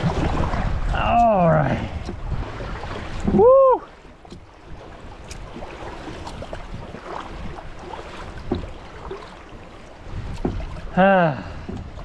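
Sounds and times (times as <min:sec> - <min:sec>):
paddle splashes and knocks: 0:00.0 - 0:12.0
water rushing around kayak hull: 0:00.0 - 0:12.0.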